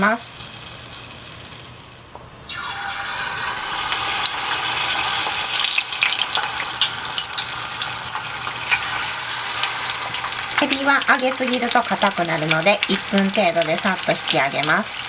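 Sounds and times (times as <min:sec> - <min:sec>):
oil frying hiss: 0:00.0 - 0:15.0
oil popping and crackling: 0:00.0 - 0:15.0
shrimp sizzling in hot oil: 0:00.0 - 0:15.0.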